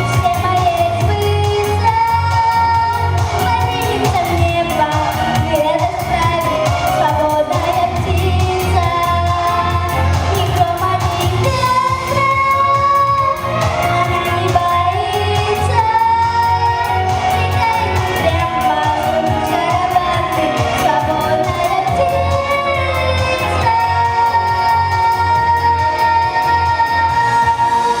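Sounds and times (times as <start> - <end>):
instrumental accompaniment with beat: 0.0 - 28.0
woman singing pop song: 0.0 - 28.0.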